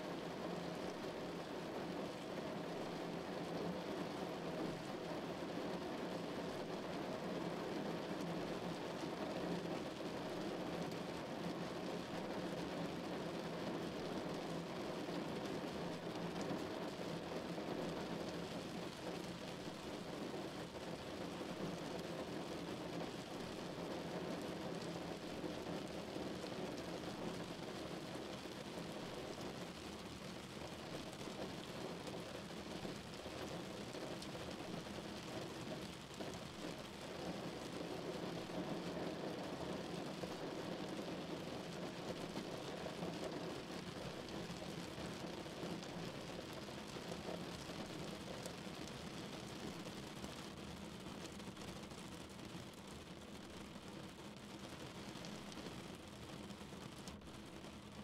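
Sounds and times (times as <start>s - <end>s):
heavy rain on a car: 0.0s - 58.0s.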